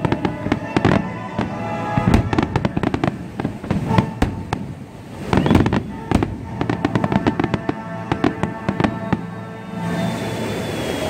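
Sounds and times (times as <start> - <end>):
music: 0.0 - 4.6, 5.3 - 11.0
fireworks crackling pops: 0.0 - 9.3.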